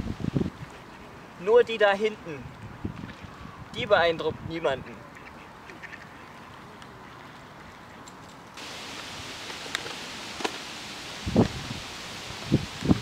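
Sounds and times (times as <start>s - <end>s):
soft outdoor rushing noise: 0.0s - 13.0s.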